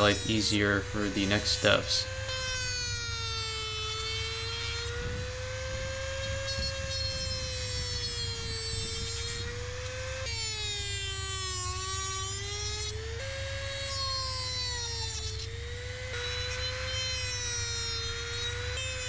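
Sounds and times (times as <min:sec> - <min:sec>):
rotary tool high whine: 0:00.0 - 0:19.0.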